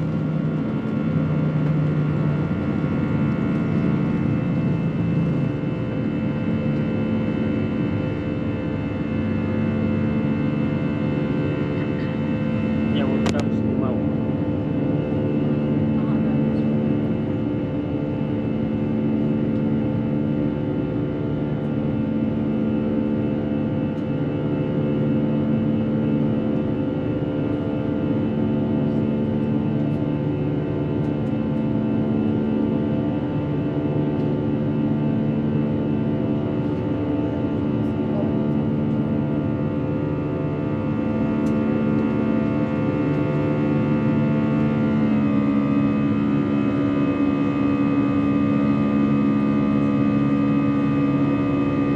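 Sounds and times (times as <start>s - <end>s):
jet engines droning in cabin: 0.0s - 51.9s.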